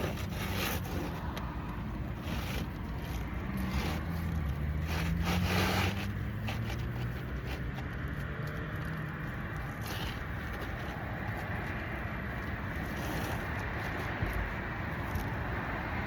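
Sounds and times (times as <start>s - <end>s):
vehicle engine passing: 0.0s - 14.1s
outdoor background noise: 0.0s - 16.0s.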